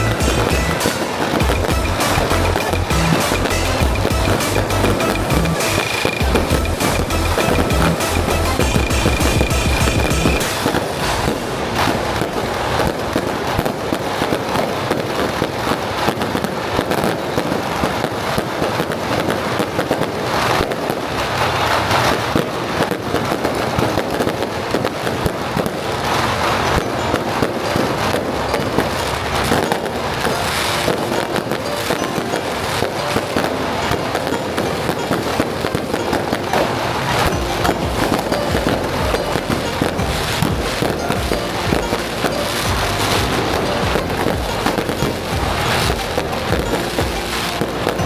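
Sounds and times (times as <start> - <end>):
firecrackers crackling: 0.0 - 48.0.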